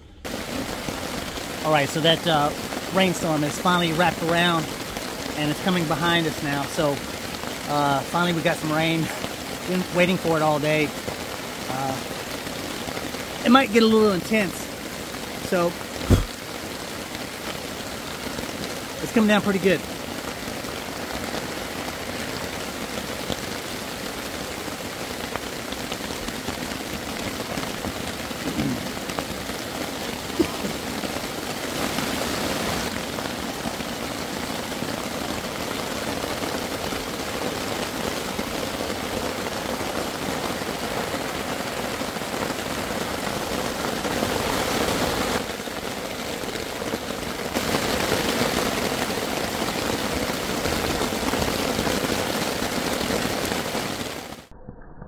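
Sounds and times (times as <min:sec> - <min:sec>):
rain on trees and grass: 0:00.0 - 0:54.5.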